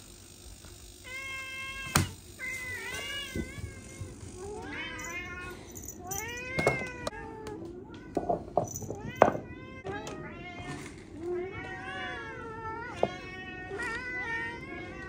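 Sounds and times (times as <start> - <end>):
cats meowing: 1.0 - 15.0.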